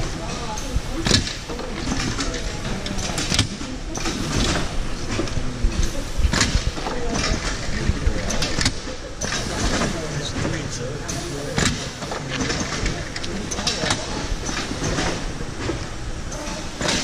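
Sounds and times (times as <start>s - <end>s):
screen-printing press machine noise: 0.0s - 17.0s.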